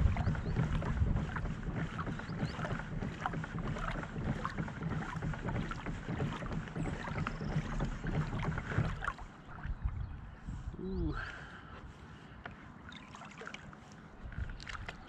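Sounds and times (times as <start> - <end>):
wind on microphone: 0.0 - 11.3, 14.2 - 15.0
paddle splashes and water trickling: 0.0 - 15.0.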